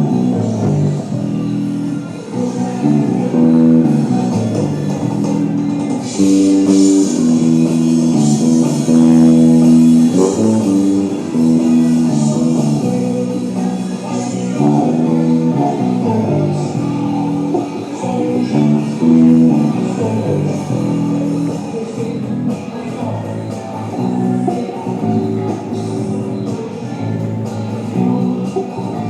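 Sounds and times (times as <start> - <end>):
electric bass notes: 0.0 - 29.0.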